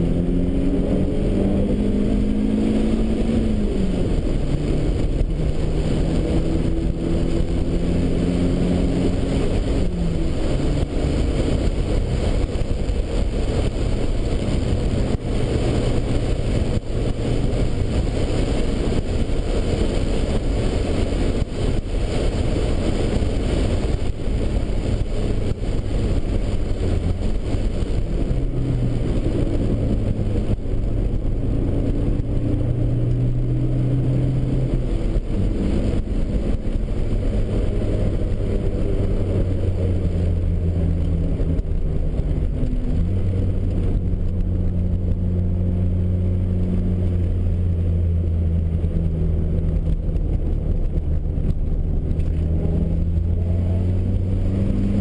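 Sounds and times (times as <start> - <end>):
road and wind noise: 0.0 - 55.0
turbocharged car engine: 0.0 - 55.0.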